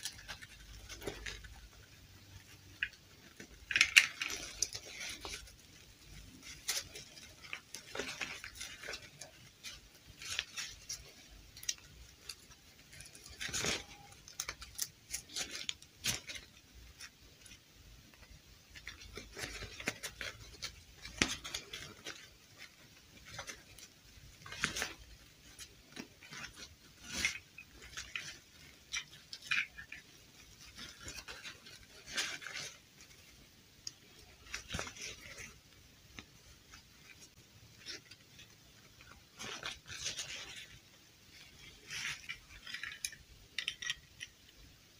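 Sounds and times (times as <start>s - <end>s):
cloth dress rustling: 0.0s - 44.9s.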